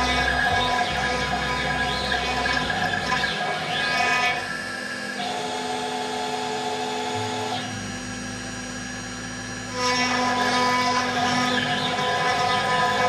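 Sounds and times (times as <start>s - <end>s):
router spindle engraving wood: 0.0s - 13.0s
stepper motors whining: 0.0s - 13.0s.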